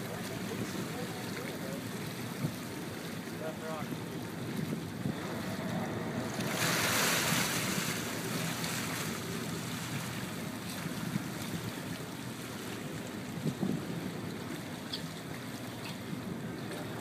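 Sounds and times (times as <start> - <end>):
boat engine rumble: 0.0 - 17.0
sea water washing around boat: 0.0 - 17.0
wind: 0.0 - 17.0.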